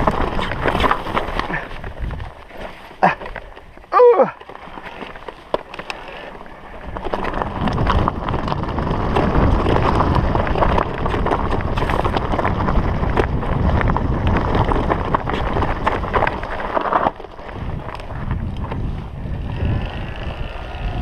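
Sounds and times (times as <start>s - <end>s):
wind rumble on microphone: 0.0s - 4.4s, 6.7s - 21.0s
tyres crunching on stones: 0.0s - 19.0s
gravel and bike rattles: 0.0s - 21.0s.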